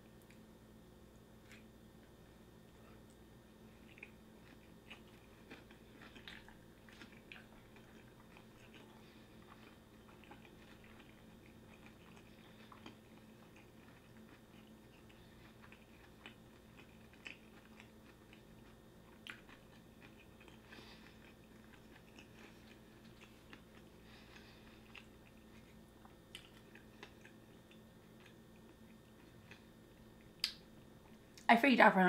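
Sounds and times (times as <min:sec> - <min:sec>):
low steady hum: 0:00.0 - 0:32.0
chewing mouth clicks: 0:03.8 - 0:29.6.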